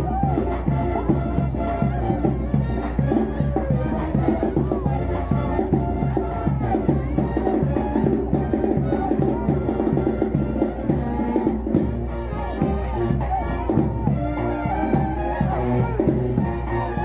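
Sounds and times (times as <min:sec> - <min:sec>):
brass band music: 0:00.0 - 0:17.0.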